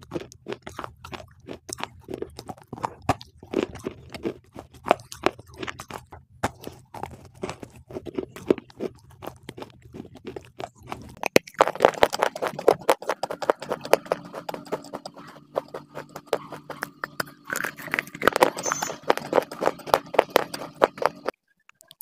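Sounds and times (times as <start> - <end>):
crunching and chewing clay: 0.0 - 22.0.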